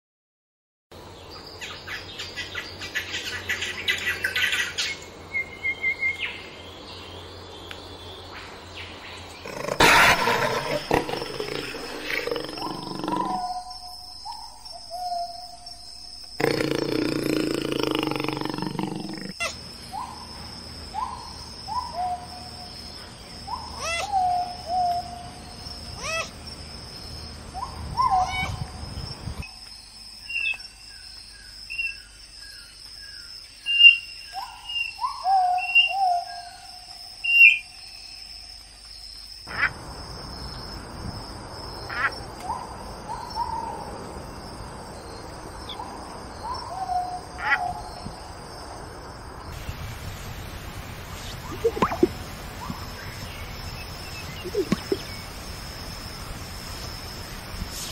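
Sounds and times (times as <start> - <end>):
insects droning: 1.0 - 57.9.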